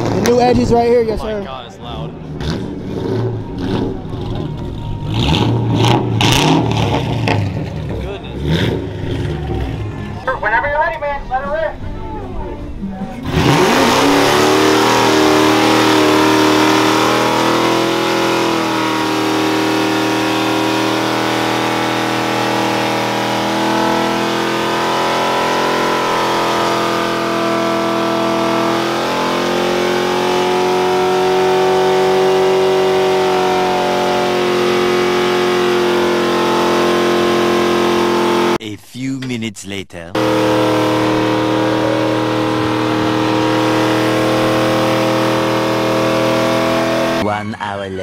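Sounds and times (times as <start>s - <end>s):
car engine revving loudly: 2.1s - 10.2s, 13.2s - 38.6s, 40.2s - 47.2s.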